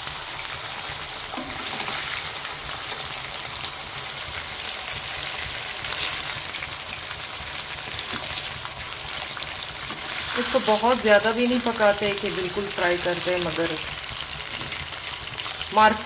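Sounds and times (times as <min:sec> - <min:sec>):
chicken sizzling on a grill pan: 0:00.0 - 0:16.0.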